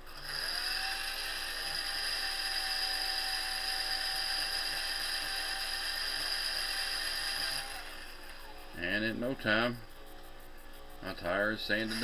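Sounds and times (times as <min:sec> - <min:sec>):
electric drill whining: 0:00.0 - 0:09.7, 0:11.6 - 0:12.0.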